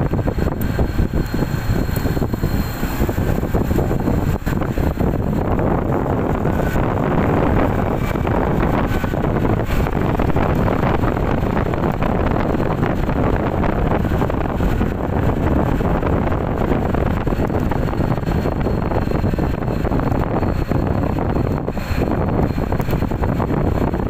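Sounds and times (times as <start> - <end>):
motorbike engine: 0.0 - 24.0
wind rushing over microphone: 0.0 - 24.0.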